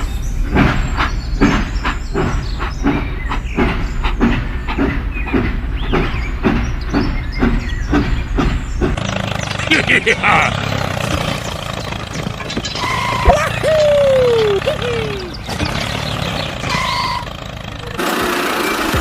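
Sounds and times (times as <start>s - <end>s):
regular clacking: 0.4s - 18.0s.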